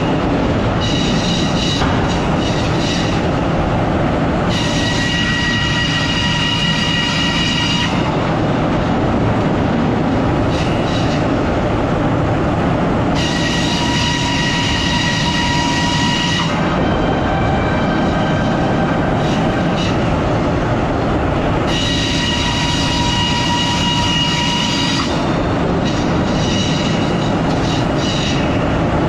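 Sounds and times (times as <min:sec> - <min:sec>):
high steady whine: 0:00.0 - 0:29.0
sawmill machinery rumbling: 0:00.0 - 0:29.0.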